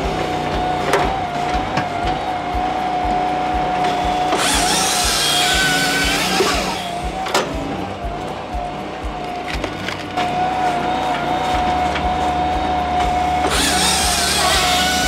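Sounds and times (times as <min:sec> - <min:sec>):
background music with beat: 0:00.0 - 0:15.0
firewood processor whining: 0:00.0 - 0:15.0.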